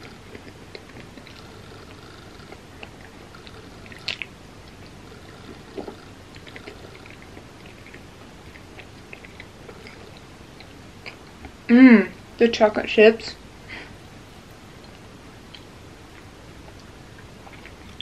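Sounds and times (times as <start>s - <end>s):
wet chewing and smacking: 0.0s - 11.6s, 14.4s - 18.0s.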